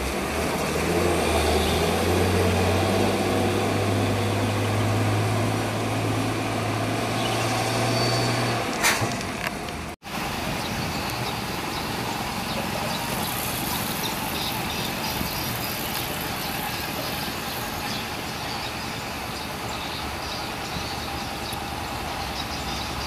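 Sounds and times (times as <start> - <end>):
diesel truck engines rumbling: 0.0 - 23.0
road noise: 0.0 - 23.0.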